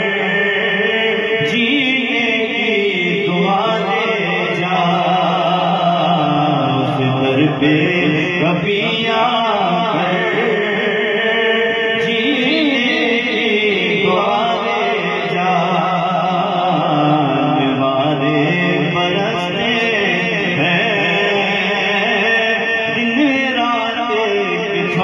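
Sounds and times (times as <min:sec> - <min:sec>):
voices chanting devotional melody: 0:00.0 - 0:25.0.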